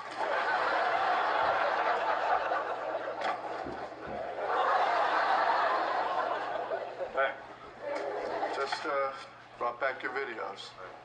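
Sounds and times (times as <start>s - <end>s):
studio audience laughing: 0.0s - 8.9s.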